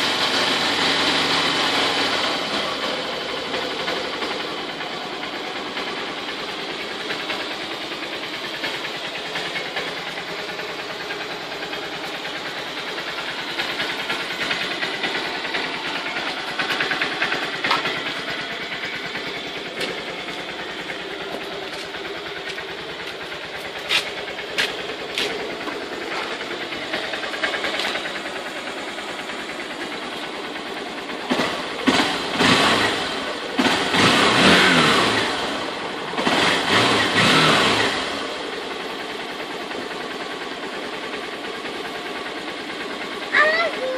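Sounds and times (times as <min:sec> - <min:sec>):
engine throttle blips: 0:00.0 - 0:43.9
motorcycle engine idling: 0:00.0 - 0:43.9.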